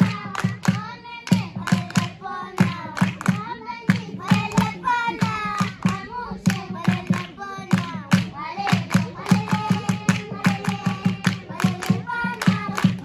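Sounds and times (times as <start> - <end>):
rhythmic hand clapping: 0.0 - 13.0
voices singing together: 0.0 - 13.0.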